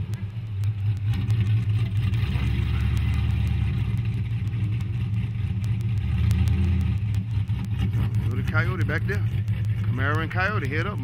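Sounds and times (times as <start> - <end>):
car engine rumbling past: 0.0 - 11.0.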